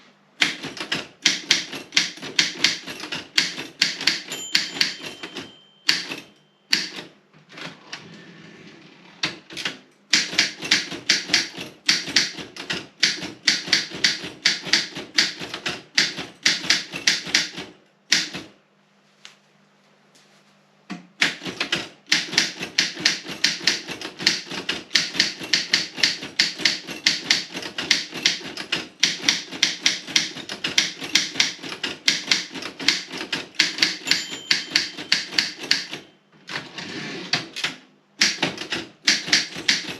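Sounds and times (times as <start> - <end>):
typewriter keystrokes: 0.4 - 7.7, 9.2 - 18.5, 21.2 - 36.6, 37.2 - 39.9.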